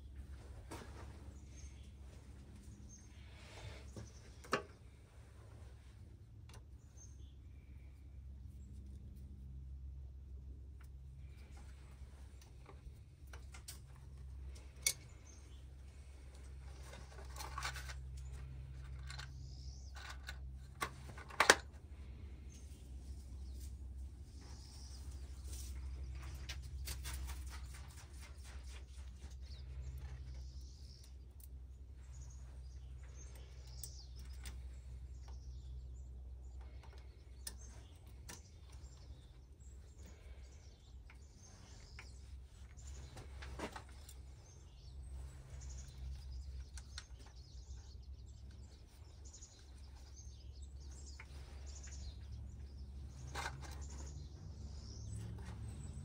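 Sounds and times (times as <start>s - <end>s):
birds chirping faintly: 0.0s - 56.0s
steady low hum: 0.0s - 56.0s.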